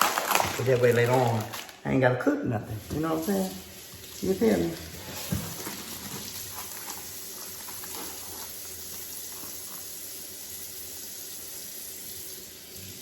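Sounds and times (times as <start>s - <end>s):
tap water running: 0.0s - 1.8s, 2.4s - 13.0s.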